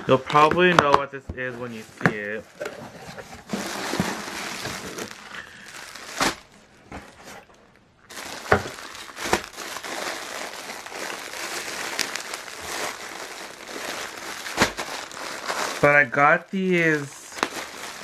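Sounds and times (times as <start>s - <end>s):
parcel packaging crinkling: 1.6s - 18.0s
packaging snapping: 3.4s - 18.0s.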